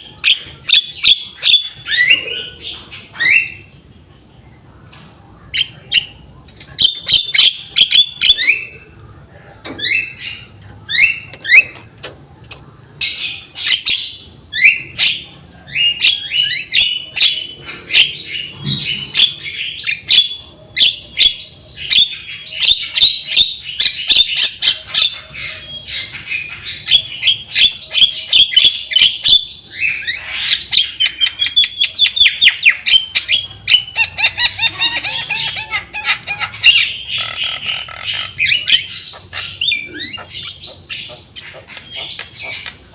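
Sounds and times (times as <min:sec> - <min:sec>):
myna bird chattering: 0:05.5 - 0:42.9.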